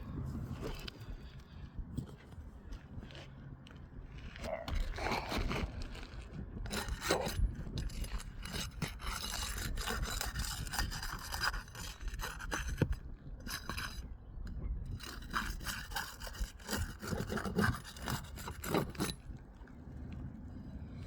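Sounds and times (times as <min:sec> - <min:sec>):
scraping on asphalt shingles: 0:00.1 - 0:14.0, 0:14.9 - 0:21.0.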